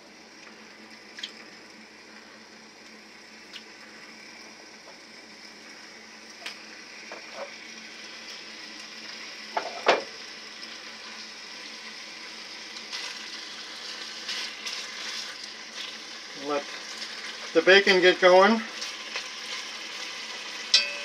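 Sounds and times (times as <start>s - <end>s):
bacon sizzling in a pot: 0.0s - 21.0s.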